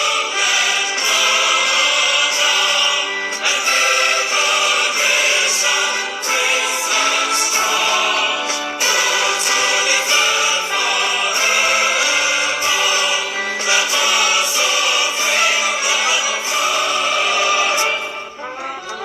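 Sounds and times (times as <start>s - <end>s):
choir singing held notes: 0.0s - 19.0s.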